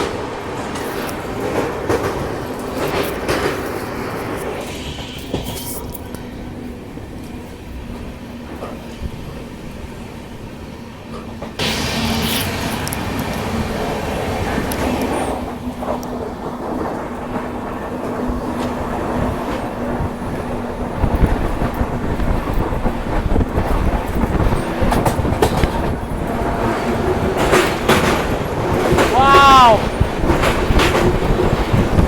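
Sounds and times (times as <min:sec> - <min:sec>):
wheels clacking over rail joints: 0:00.0 - 0:09.4, 0:11.1 - 0:32.0
train rumbling on track: 0:00.0 - 0:32.0.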